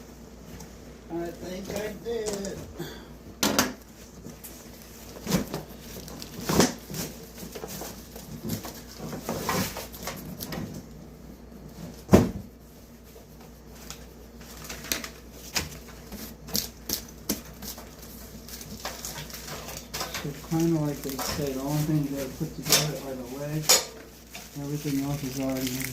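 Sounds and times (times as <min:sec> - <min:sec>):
cardboard packaging rustling and scraping: 0:03.8 - 0:25.9.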